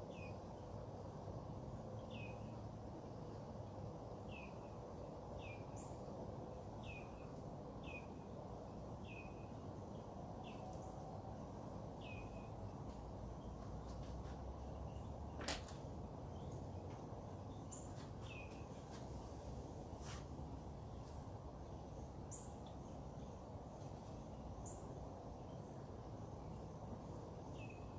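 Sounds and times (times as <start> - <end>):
low background hum: 0.0 - 27.9.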